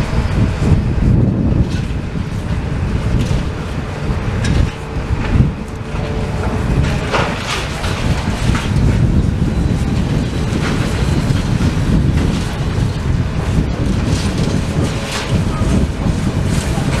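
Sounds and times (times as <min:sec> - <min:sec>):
excavator running: 0:00.0 - 0:17.0
wind buffeting microphone: 0:00.0 - 0:17.0
debris clattering: 0:01.6 - 0:17.0.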